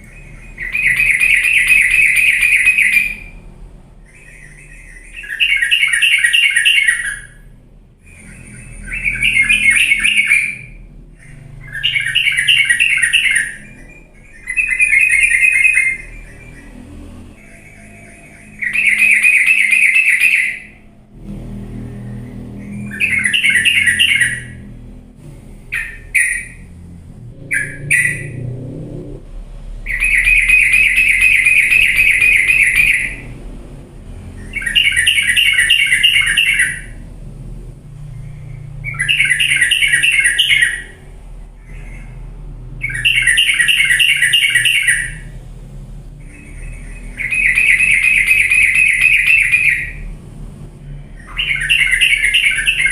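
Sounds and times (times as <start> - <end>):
bulbul chattering song: 0.0 - 52.9.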